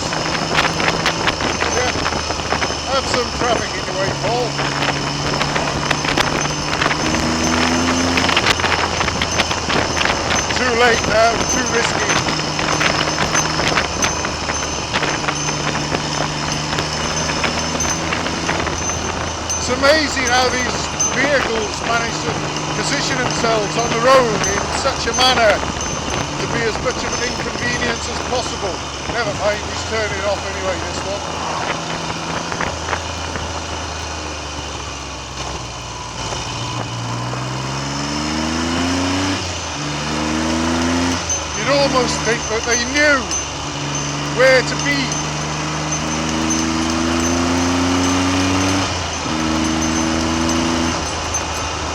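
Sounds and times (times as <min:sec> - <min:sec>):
motorcycle engine running: 0:00.0 - 0:51.9
wind noise on microphone: 0:00.0 - 0:51.9.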